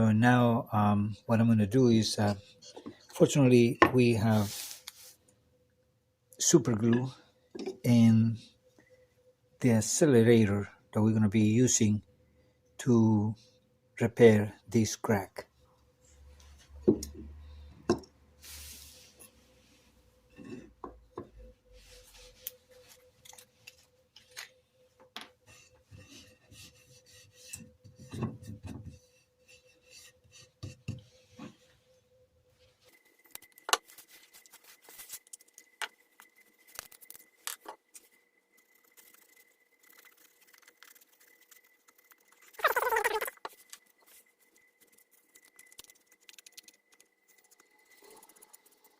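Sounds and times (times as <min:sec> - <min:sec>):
faint steady tone: 0:00.0 - 0:48.9.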